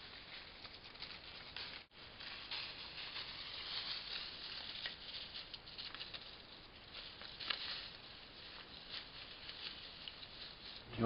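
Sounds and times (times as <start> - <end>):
dry leaves rustling under paws: 0.0 - 11.0.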